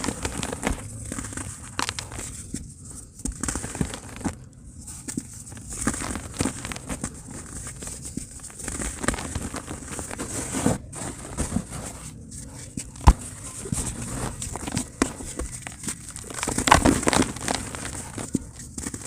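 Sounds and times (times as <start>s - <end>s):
dry cement crumbling: 0.0s - 19.0s.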